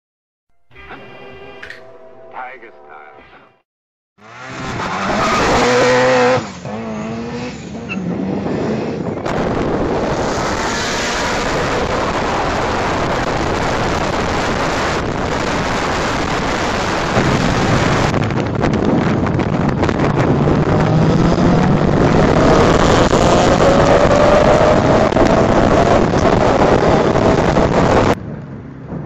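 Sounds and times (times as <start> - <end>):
car engine accelerating: 4.2 - 28.2
wind and road noise: 4.2 - 29.0.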